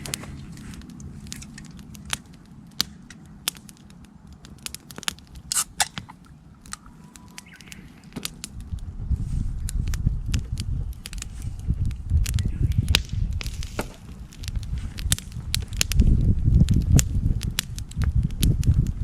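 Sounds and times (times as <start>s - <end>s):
campfire crackling and popping: 0.0s - 19.0s
low rumbling: 0.0s - 19.0s.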